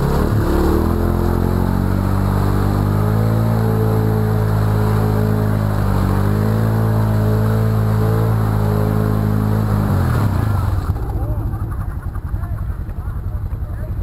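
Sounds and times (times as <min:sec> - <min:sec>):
quad bike engine running: 0:00.0 - 0:14.0.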